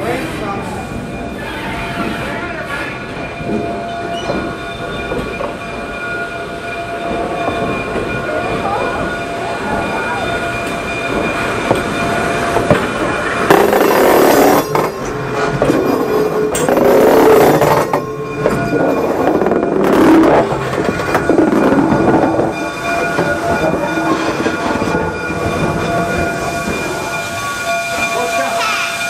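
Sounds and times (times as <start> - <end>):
steam locomotive mechanical din: 0.0 - 29.0.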